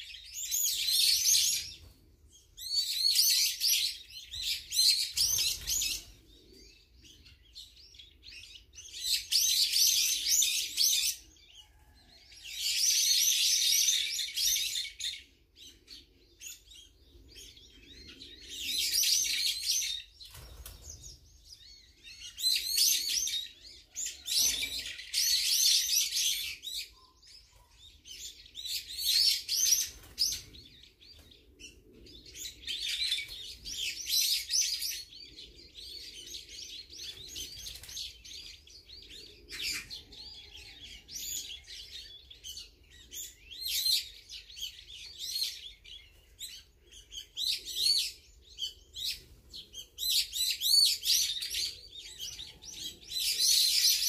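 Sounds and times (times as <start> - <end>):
birds calling: 0.0 - 54.0.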